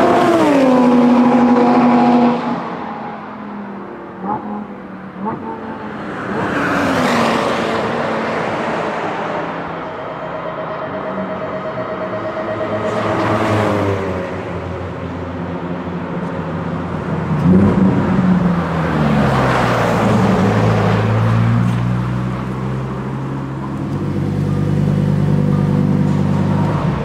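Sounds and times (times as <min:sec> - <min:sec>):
car engine low drone: 0:00.0 - 0:27.0.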